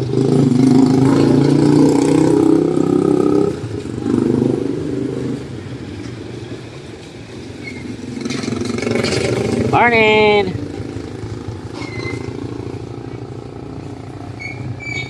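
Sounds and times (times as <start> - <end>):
faint engine: 0.0 - 15.0
vehicle engine passing by: 0.0 - 15.0.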